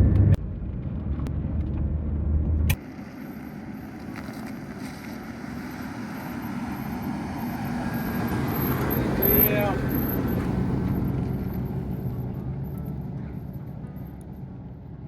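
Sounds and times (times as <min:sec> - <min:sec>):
road noise: 0:00.0 - 0:15.0
van engine hum: 0:00.0 - 0:15.0.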